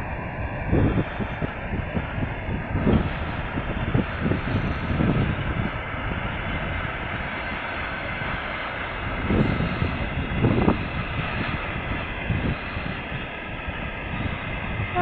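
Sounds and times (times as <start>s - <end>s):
diesel locomotive engine drone: 0.0s - 15.0s
train wheel and car noise: 0.0s - 15.0s
wind buffeting microphone: 0.0s - 15.0s.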